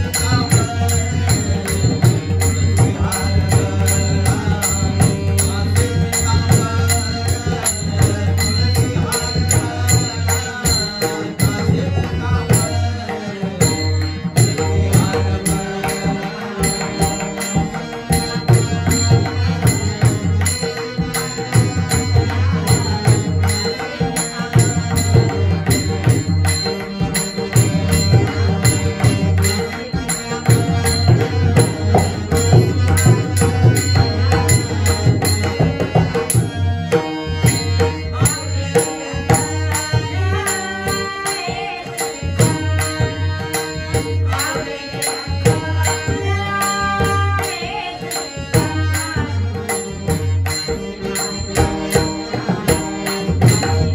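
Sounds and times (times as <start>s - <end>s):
devotional music: 0.0s - 53.9s.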